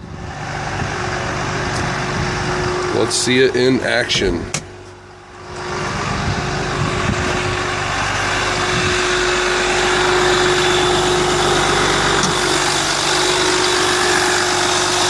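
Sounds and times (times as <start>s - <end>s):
air compressor rushing: 0.0s - 15.0s
truck engine running: 0.0s - 15.0s.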